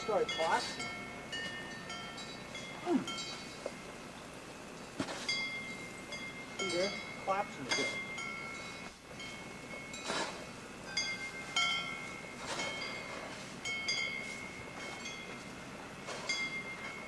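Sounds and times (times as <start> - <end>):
wind chimes ringing: 0.0 - 4.4, 5.2 - 17.0.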